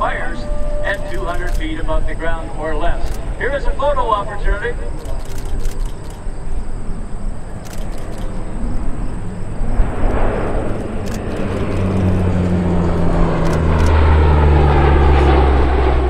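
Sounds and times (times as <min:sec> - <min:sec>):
propeller aircraft passing overhead: 0:00.0 - 0:16.0.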